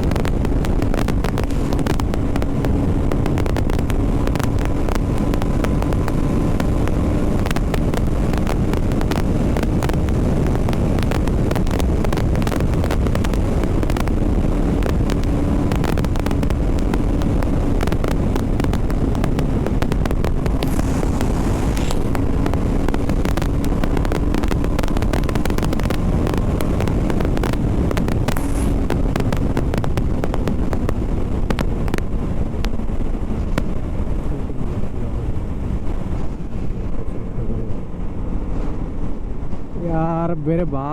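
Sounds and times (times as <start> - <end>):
motorcycle engine running: 0.0 - 39.6
wind buffeting microphone: 0.0 - 40.9.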